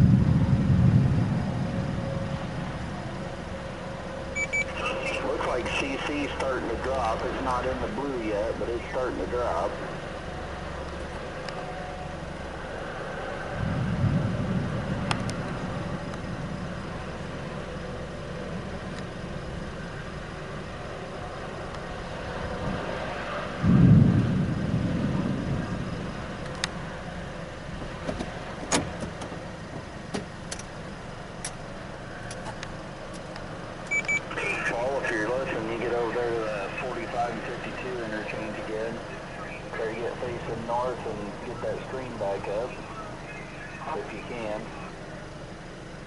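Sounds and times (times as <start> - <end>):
car road and engine noise: 0.0 - 46.0
low engine surges: 0.0 - 46.0.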